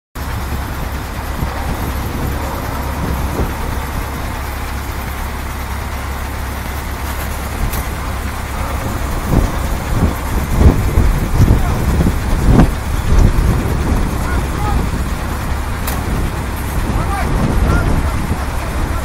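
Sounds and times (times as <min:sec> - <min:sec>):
road noise: 0:00.2 - 0:19.0
truck engine drone: 0:00.2 - 0:19.0.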